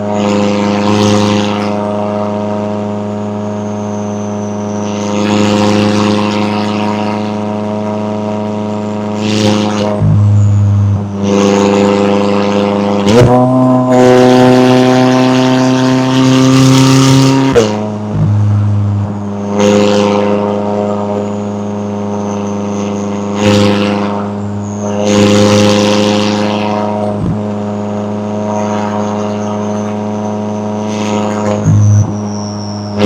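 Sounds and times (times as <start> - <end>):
exhaust crack: 0.0 - 33.0
faint high whine: 0.0 - 33.0
sports car engine running: 0.0 - 33.0.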